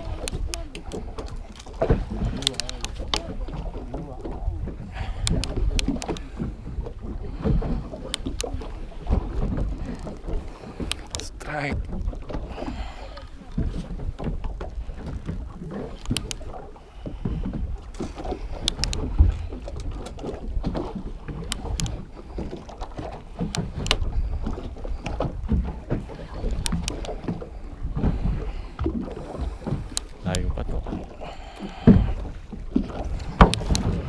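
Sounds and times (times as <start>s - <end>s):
water around a boat: 0.0s - 34.0s.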